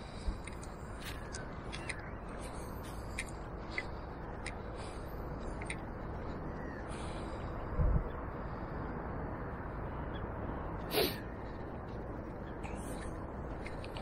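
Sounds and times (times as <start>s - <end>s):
low background rush: 0.0s - 14.0s.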